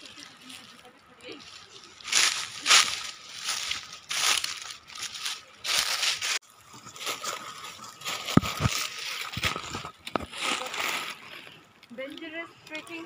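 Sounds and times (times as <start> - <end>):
footsteps through dry leaves: 0.0 - 11.6.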